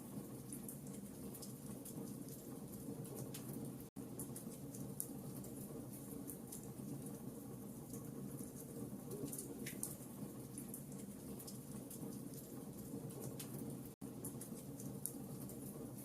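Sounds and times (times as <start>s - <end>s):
wood fire rumbling: 0.0s - 16.0s.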